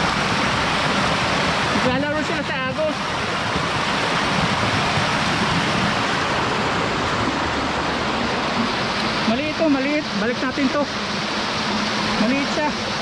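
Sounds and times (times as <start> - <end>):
water rushing in a channel: 0.0 - 13.0.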